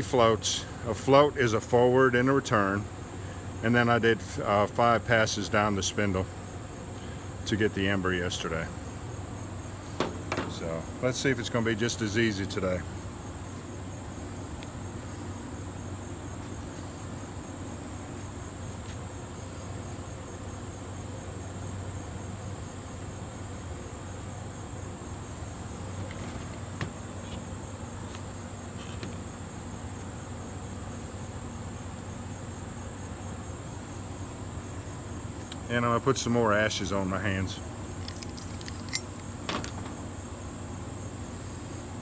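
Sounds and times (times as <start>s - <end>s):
insect chorus trilling: 0.0s - 42.0s
low background hum: 0.0s - 42.0s.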